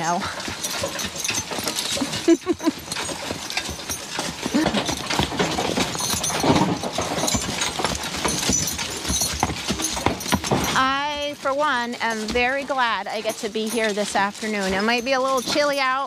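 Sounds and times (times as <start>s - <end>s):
harness and wagon rattling: 0.0s - 16.0s
horse hooves clopping on leaves: 0.0s - 16.0s.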